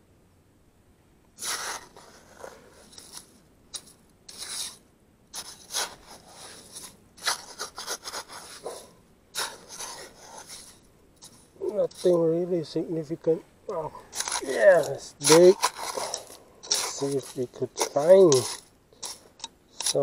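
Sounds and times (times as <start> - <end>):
hand rake scraping through mud: 1.4 - 12.3, 14.1 - 20.0.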